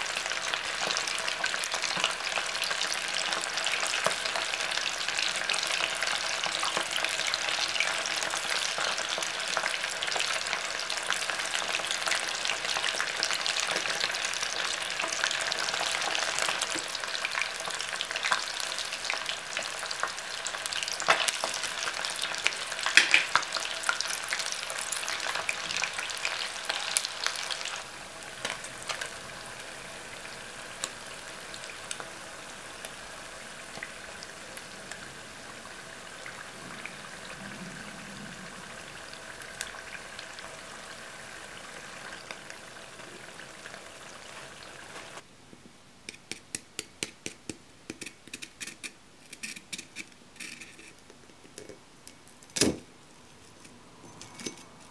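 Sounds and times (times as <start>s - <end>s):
fish deep-frying in oil: 0.0s - 45.2s.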